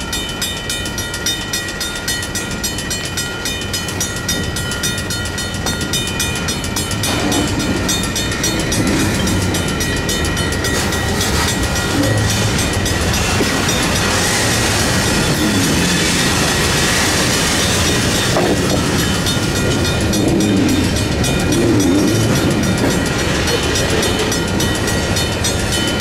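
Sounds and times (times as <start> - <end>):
railroad crossing bells ringing: 0.0 - 26.0
train cars rumbling: 0.0 - 26.0.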